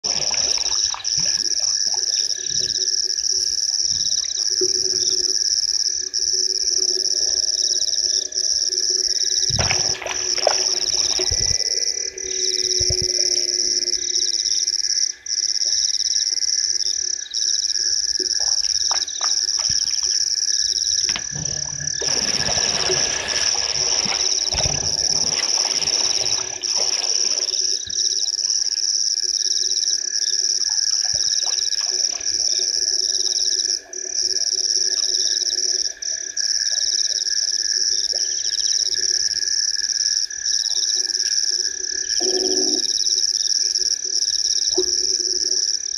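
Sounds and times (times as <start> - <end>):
frogs and insects chorus: 0.0 - 45.9.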